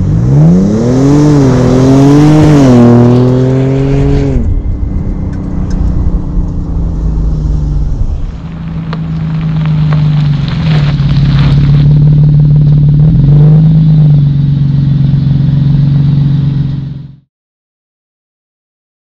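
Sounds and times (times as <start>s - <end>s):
car exhaust droning: 0.0s - 17.2s.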